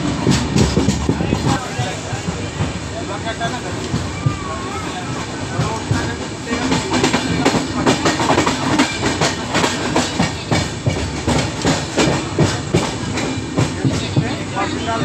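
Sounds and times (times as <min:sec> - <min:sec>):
train running rumble: 0:00.0 - 0:15.0
train wheels clacking over rails: 0:00.0 - 0:15.0.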